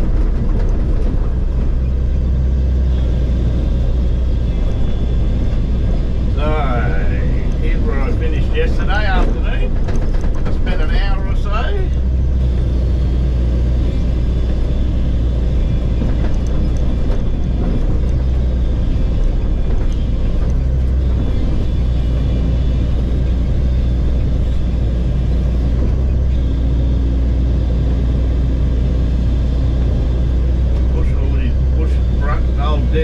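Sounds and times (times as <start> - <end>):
excavator diesel engine drone: 0.0 - 33.0
higher steady hum: 0.0 - 33.0.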